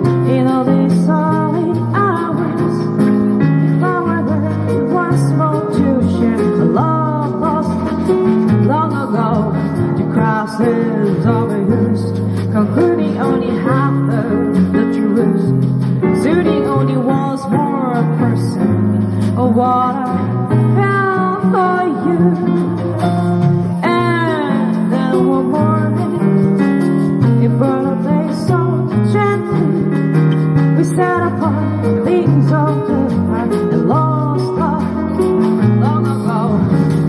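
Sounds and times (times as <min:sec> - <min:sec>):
sliding lead melody: 0:00.0 - 0:37.0.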